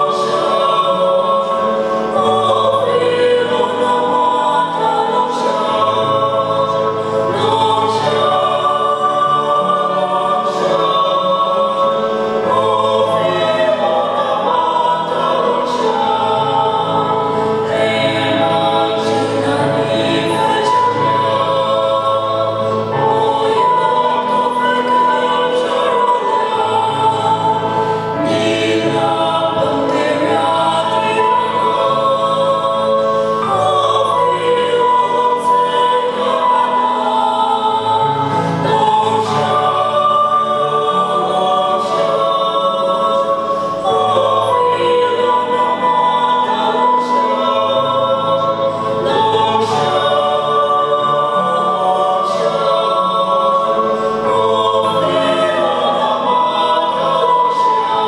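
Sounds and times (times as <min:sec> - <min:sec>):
choir singing a hymn: 0:00.0 - 0:58.0
keyboard sustained chords: 0:00.0 - 0:58.0.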